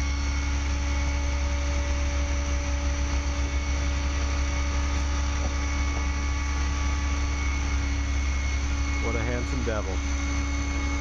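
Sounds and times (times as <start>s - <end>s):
crane engine rumbling: 0.0s - 11.0s.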